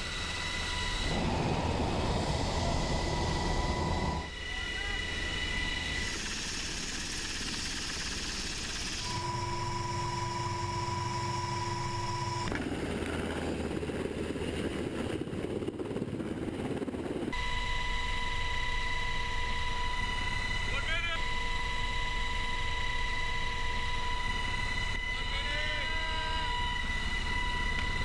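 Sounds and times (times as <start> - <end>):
helicopter turbine drone: 0.0 - 28.0
turbine whine: 0.0 - 28.0.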